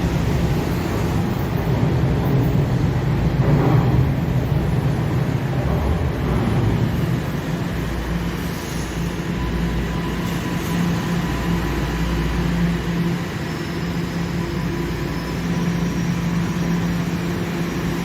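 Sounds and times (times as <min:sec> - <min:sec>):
deep train rumble: 0:00.0 - 0:18.0
subway train humming: 0:00.0 - 0:18.0.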